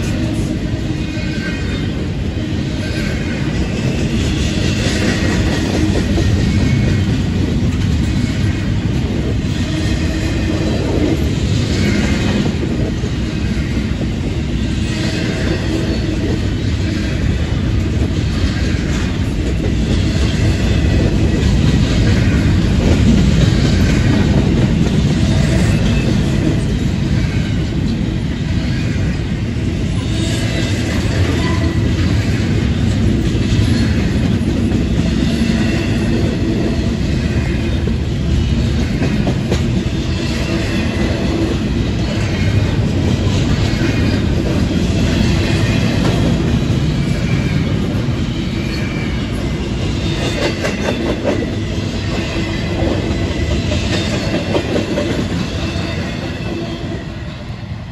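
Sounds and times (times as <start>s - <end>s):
train wheels rumbling on rails: 0.0s - 57.9s
wheels clickety-clack over joints: 3.0s - 28.1s, 29.9s - 56.6s.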